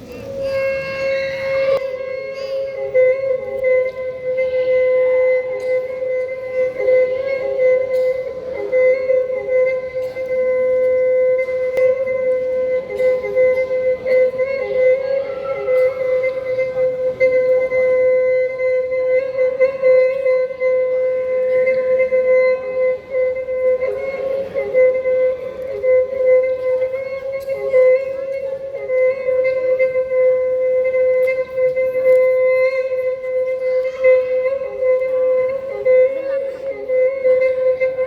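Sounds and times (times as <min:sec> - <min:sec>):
horn holding a wavering note: 0:00.0 - 0:38.0.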